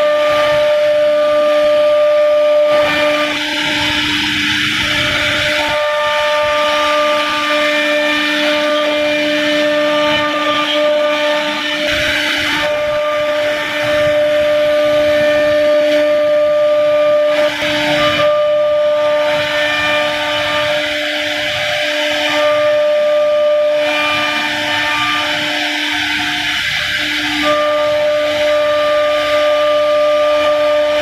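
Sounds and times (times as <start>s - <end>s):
cnc router spindle whine: 0.0s - 31.0s
hiss of bit cutting wood: 0.0s - 31.0s.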